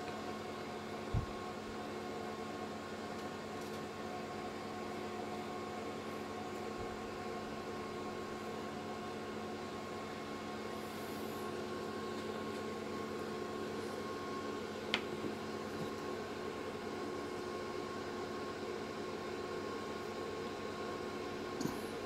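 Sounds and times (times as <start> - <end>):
electrical machine hum: 0.0 - 22.0.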